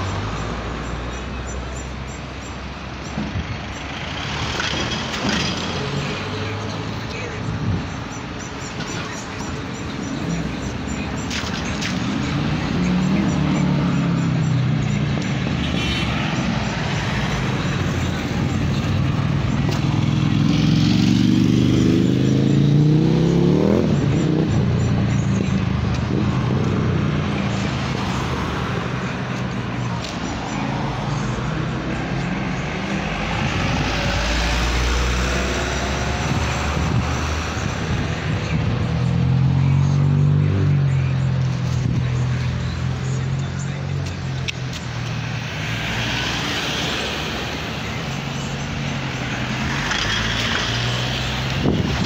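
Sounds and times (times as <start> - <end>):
cars driving past: 0.0 - 52.0
steady traffic noise: 0.0 - 52.0.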